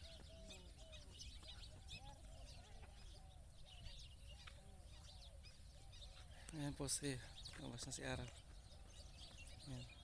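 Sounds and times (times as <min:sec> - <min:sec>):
arching bird calls: 0:00.0 - 0:10.0
birds chirping: 0:00.0 - 0:10.0.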